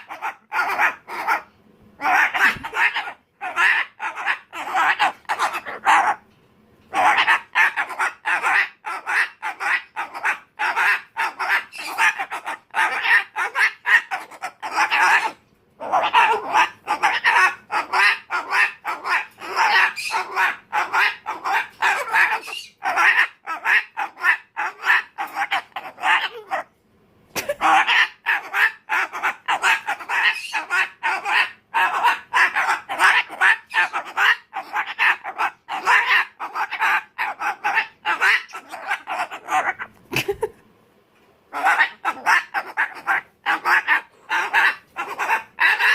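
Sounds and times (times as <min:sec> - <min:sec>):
cockatoo squawking: 0:00.0 - 0:06.3, 0:06.9 - 0:26.7, 0:27.4 - 0:40.5, 0:41.5 - 0:45.9.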